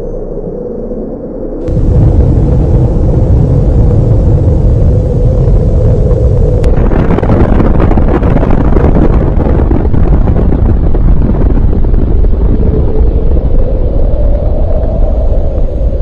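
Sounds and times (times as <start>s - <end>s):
deep explosion rumble: 1.6s - 16.0s.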